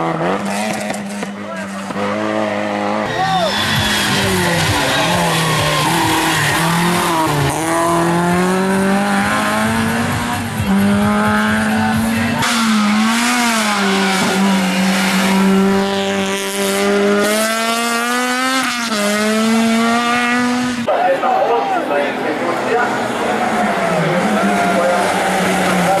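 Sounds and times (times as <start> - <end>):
race car engine running hard: 0.0 - 26.0.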